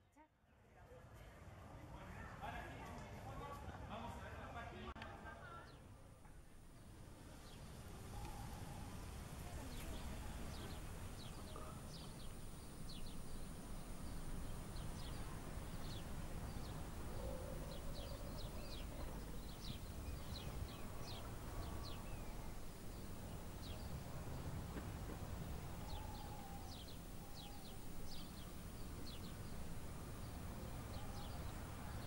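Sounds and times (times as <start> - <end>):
low outdoor rumble: 4.7 - 32.0
small birds chirping: 5.0 - 32.0.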